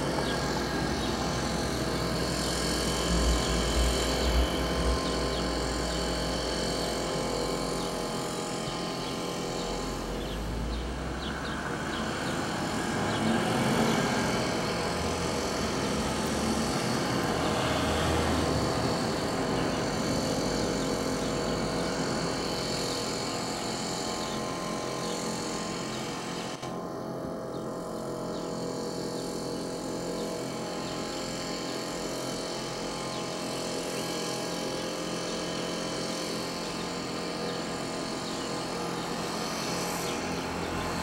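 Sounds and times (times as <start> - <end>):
leaf blower engine droning: 0.0 - 41.0.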